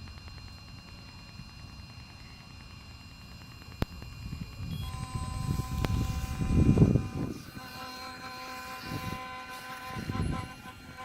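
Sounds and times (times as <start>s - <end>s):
drone electric whine: 0.0s - 11.0s.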